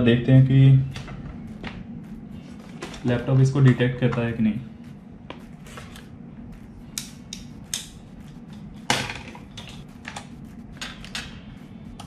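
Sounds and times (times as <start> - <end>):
low hum: 0.0 - 12.0
computer gear clicks and clacks: 0.1 - 12.0.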